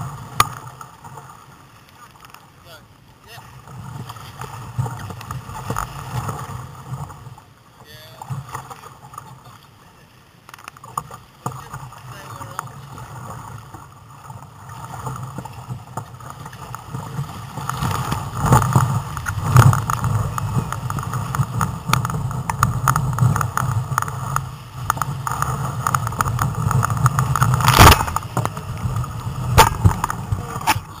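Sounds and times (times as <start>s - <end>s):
water slapping: 0.0s - 2.5s, 3.2s - 9.6s, 10.4s - 31.0s
surf rushing and splashing: 0.0s - 31.0s.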